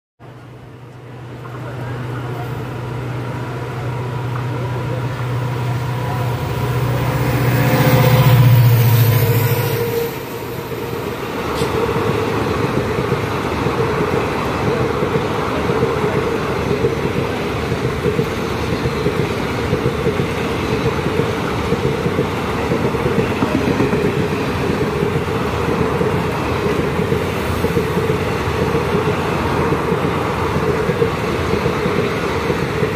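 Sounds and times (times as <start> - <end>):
locomotive low drone: 0.2 - 32.9
train wheels rumbling and clattering: 0.6 - 32.9.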